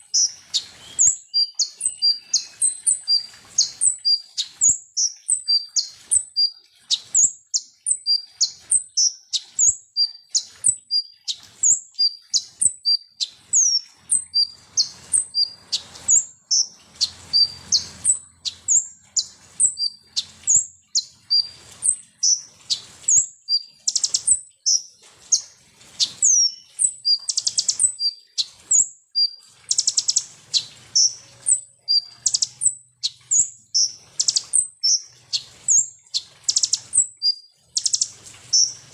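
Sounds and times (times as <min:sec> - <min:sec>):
bird chirping: 0:00.0 - 0:38.9
bird rattling trills: 0:00.0 - 0:38.9.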